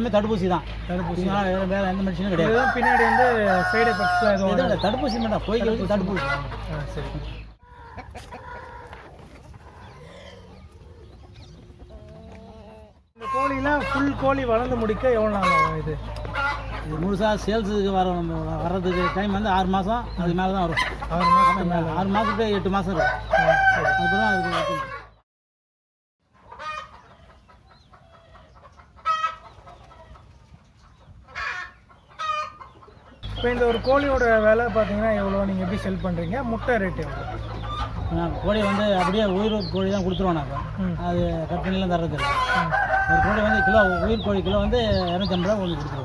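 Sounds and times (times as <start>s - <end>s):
chickens clucking: 0.0s - 25.2s, 26.2s - 46.0s.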